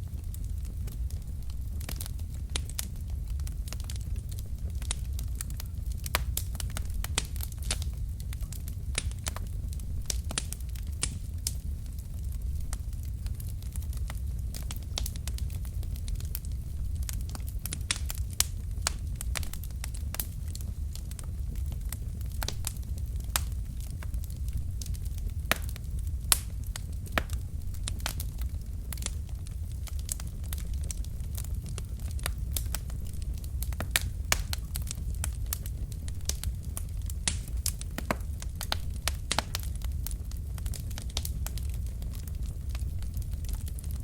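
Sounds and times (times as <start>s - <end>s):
logs crackling and popping: 0.0s - 44.0s
low rumble of flames: 0.0s - 44.0s.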